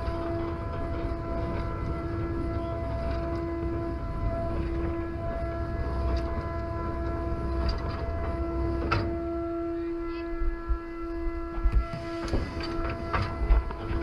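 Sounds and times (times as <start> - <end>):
ship machinery humming: 0.0 - 14.0.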